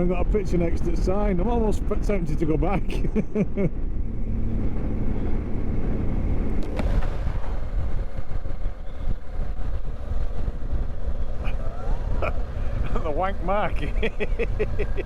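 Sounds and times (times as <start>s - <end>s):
motorcycle engine and wind rumble: 0.0s - 15.0s.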